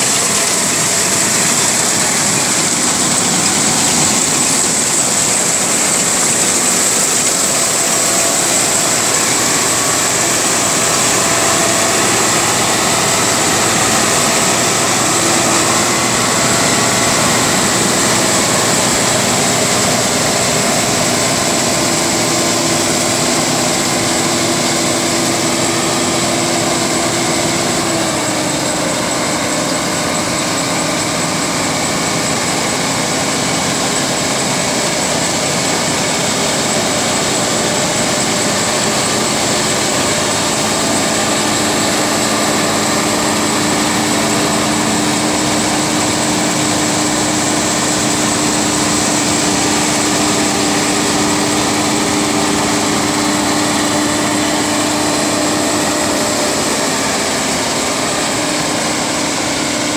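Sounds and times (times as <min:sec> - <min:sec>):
combine harvester running: 0:00.0 - 0:59.9
high-pitched machine whine: 0:00.0 - 0:59.9.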